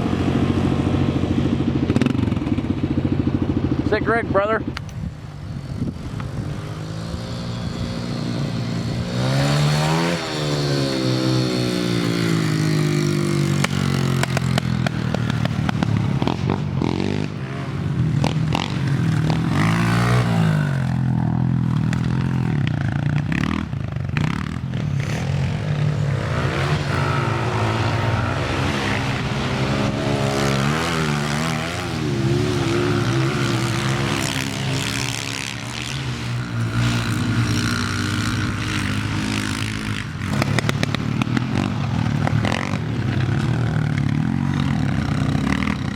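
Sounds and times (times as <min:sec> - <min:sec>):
pit bike engines revving: 0:00.0 - 0:45.9.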